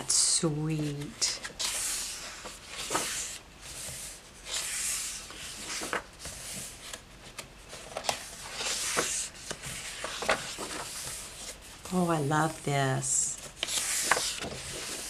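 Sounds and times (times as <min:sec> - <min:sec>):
paper pages turning: 0:00.8 - 0:15.0.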